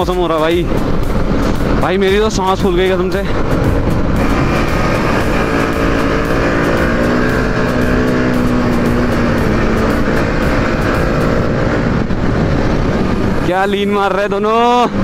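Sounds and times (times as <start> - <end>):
motorcycle engine running: 0.1 - 13.6.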